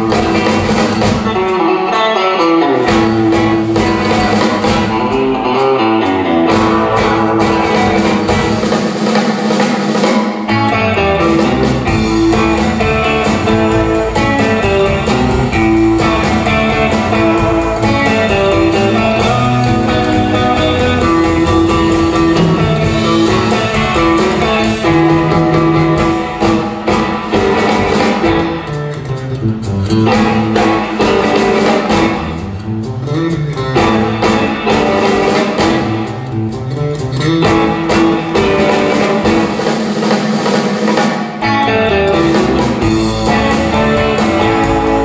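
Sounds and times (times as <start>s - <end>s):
drum kit: 0.0s - 45.0s
electric guitars playing: 0.0s - 45.0s.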